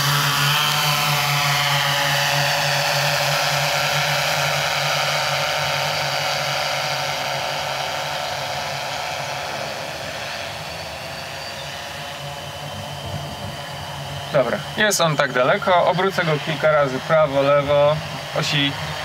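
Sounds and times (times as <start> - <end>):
drone propellers whirring: 0.0 - 19.0.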